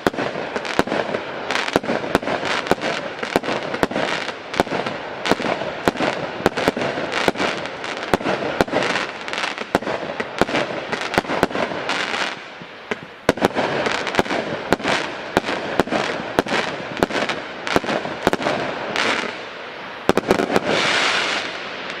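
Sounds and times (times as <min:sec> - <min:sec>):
crackling hiss: 0:00.0 - 0:22.0
fireworks bangs: 0:00.0 - 0:22.0.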